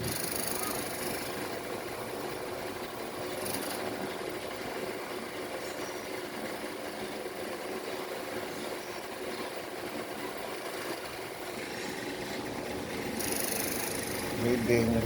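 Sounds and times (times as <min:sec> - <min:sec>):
low drone of running motor: 0:00.0 - 0:15.0.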